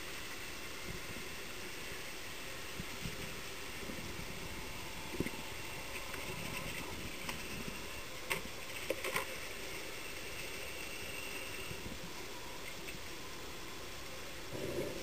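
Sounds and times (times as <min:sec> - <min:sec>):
faint thin whine: 0:00.0 - 0:15.0
muffled underwater noise: 0:02.8 - 0:15.0.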